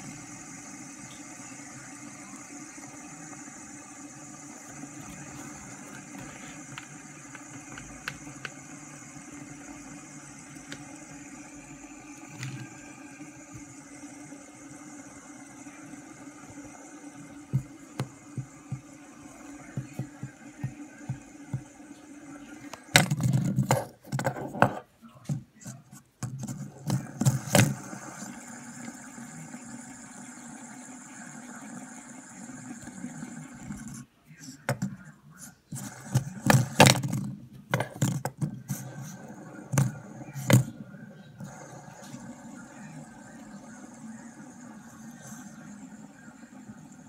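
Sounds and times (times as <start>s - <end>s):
fidget spinner whirring: 0.0s - 47.0s.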